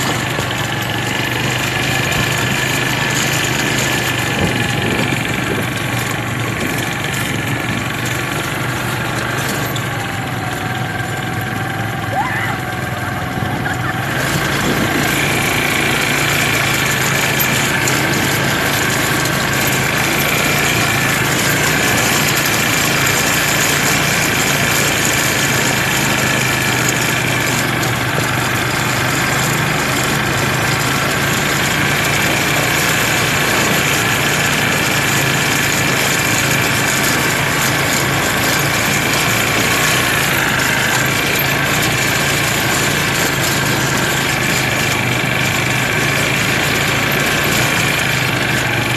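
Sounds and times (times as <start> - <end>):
quad bike engines droning: 0.0 - 48.9.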